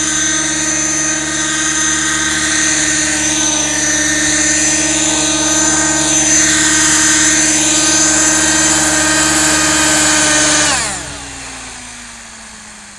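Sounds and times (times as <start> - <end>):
rotor and gears spinning down: 0.0 - 12.8
model helicopter engine running: 0.0 - 12.9.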